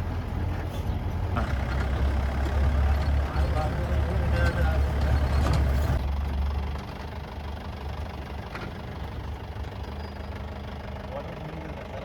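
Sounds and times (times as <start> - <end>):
jeep engine rumbling: 0.0 - 12.0.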